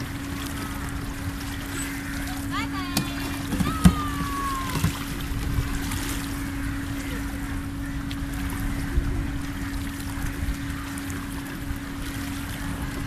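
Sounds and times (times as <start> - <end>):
ride drive hum: 0.0 - 13.0
water swishing around boats: 0.0 - 13.0.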